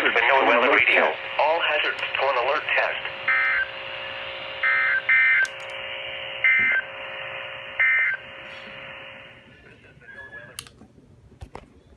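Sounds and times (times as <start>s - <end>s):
radio hiss: 0.0s - 10.6s
faint hum: 0.0s - 11.9s.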